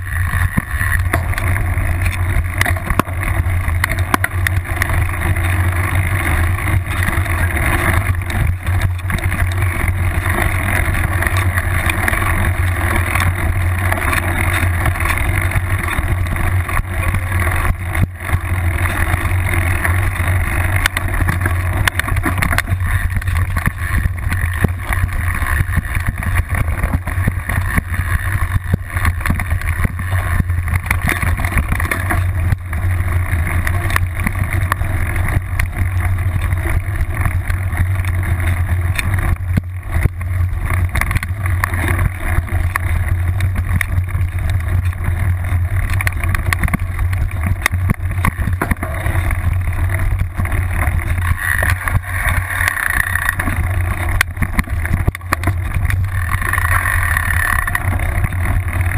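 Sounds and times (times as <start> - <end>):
bike rumbling over bumpy trail: 0.0 - 58.9
bike rattling knocks: 6.7 - 58.4.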